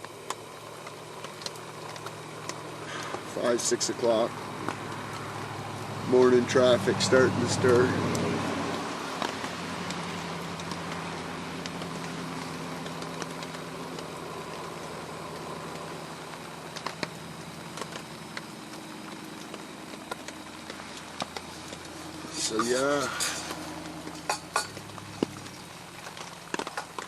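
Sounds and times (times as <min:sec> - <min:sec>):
rain hissing: 0:00.0 - 0:27.0
raindrops ticking: 0:00.0 - 0:27.0
road traffic engine hum: 0:00.0 - 0:27.0.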